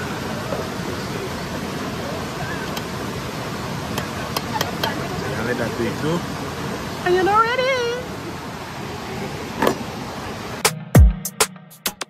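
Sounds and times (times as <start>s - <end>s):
river water flowing: 0.0s - 10.7s.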